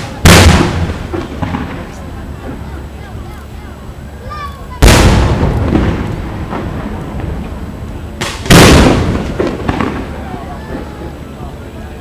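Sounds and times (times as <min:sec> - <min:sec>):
fireworks booming: 0:00.0 - 0:11.8.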